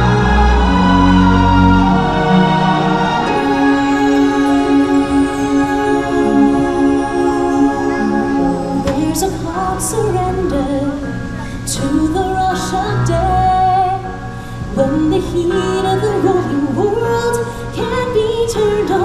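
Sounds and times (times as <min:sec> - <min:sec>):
sustained backing chords: 0:00.0 - 0:19.0
woman singing slow melody: 0:00.0 - 0:19.0.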